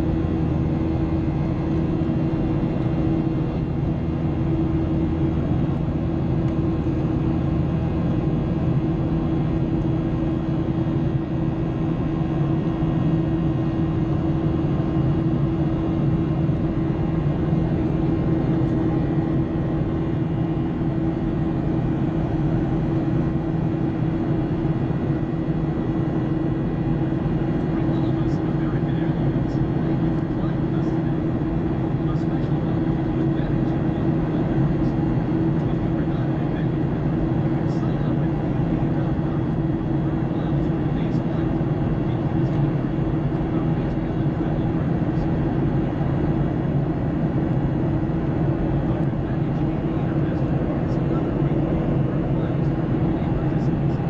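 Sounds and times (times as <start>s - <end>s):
aircraft cabin engine roar: 0.0s - 54.0s
constant low hum: 0.0s - 54.0s.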